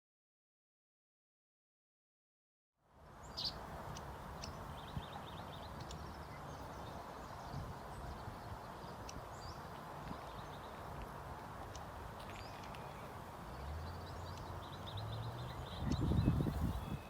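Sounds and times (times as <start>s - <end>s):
small birds chirping: 3.0s - 17.0s.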